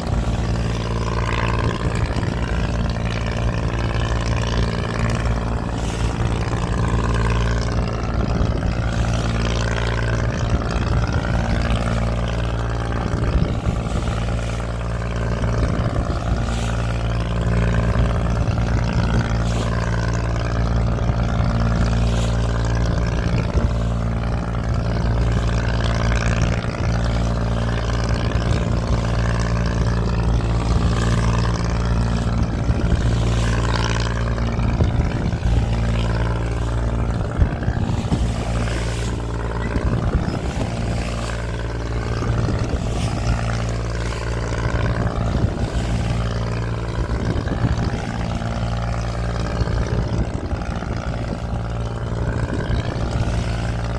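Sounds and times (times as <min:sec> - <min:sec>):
boat engine droning: 0:00.0 - 0:53.9
water wash: 0:00.0 - 0:53.9.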